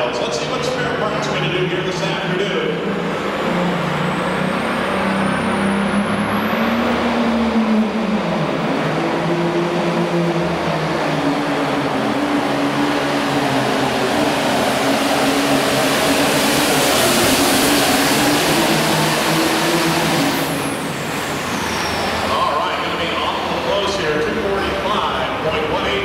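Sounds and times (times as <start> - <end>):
high turbo whine: 0.0 - 26.0
tractor diesel engine under load: 0.0 - 26.0.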